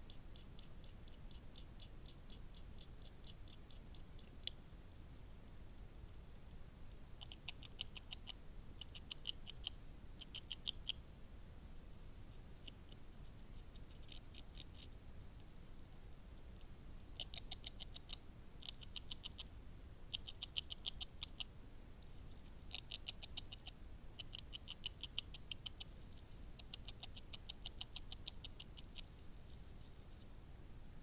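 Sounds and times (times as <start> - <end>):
beaver gnawing with rapid ticks: 0.0 - 4.6, 7.2 - 11.0, 12.3 - 15.5, 16.5 - 21.5, 22.2 - 30.3.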